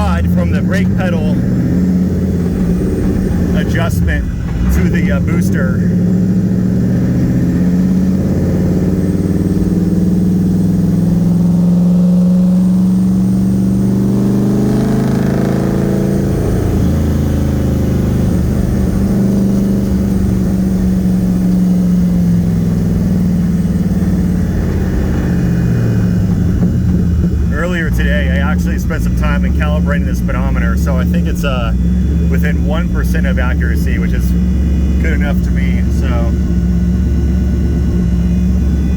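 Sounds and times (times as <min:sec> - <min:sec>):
car engine heard from cabin: 0:00.0 - 0:38.9.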